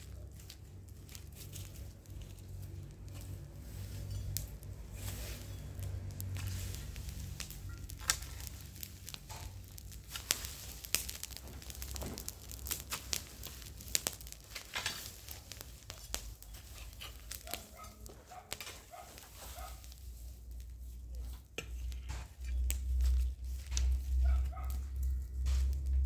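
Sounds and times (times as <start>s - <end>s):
crackles and clicks: 0.0s - 26.0s.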